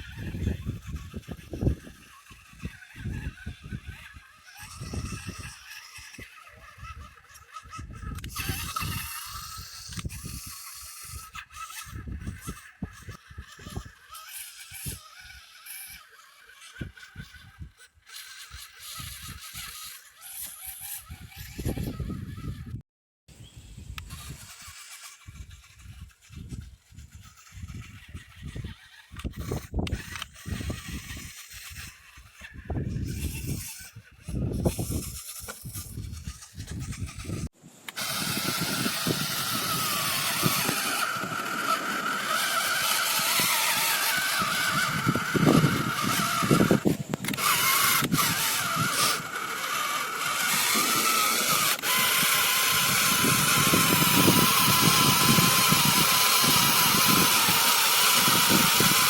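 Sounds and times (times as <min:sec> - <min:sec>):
small motor whining: 0:00.0 - 0:22.8, 0:23.4 - 0:59.0.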